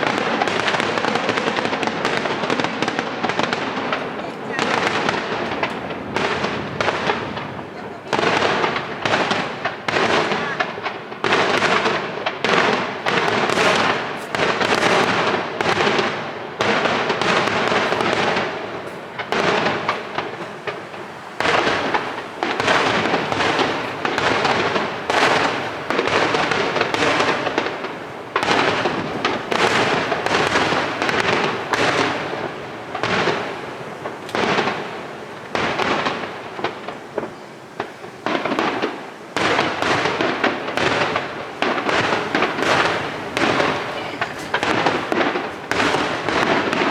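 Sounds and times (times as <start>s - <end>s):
fireworks shells bursting: 0.0s - 46.9s.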